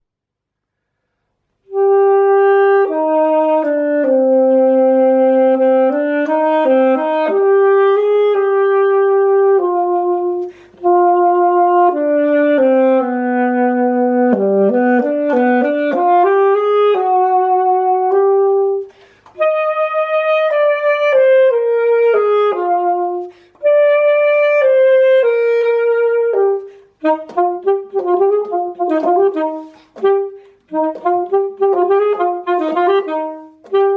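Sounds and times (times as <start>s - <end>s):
alto saxophone melody: 1.6s - 33.9s.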